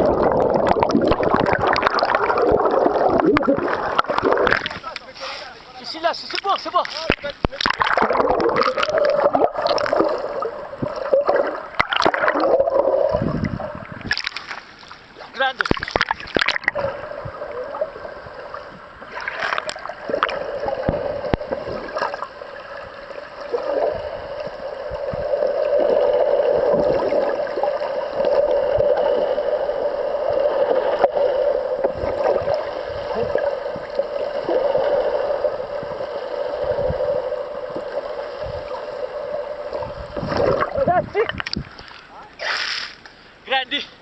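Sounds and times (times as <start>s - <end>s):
water rushing underwater: 0.0s - 5.0s, 7.4s - 41.8s
steady hum: 0.0s - 42.4s.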